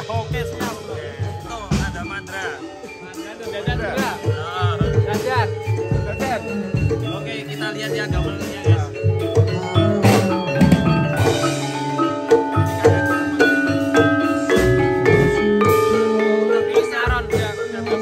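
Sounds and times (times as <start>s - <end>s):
metallophones struck with mallets: 0.0s - 18.0s.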